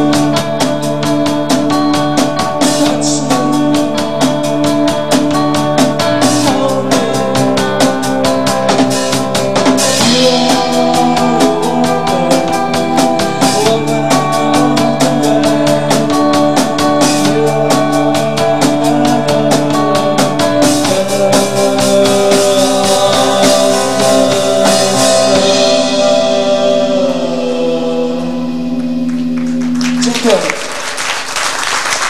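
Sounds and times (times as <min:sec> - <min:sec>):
rock band playing live: 0:00.0 - 0:31.1.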